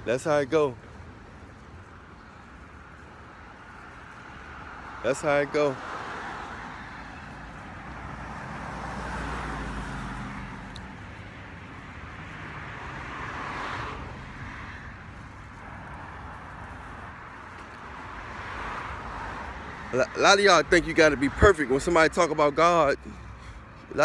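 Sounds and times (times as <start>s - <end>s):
road traffic going by: 0.0s - 24.0s.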